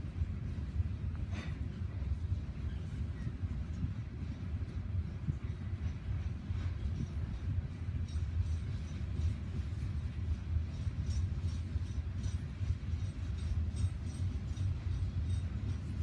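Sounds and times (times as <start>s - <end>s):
freight train rolling past: 0.0s - 16.0s
high clinks from train wheels: 0.0s - 16.0s.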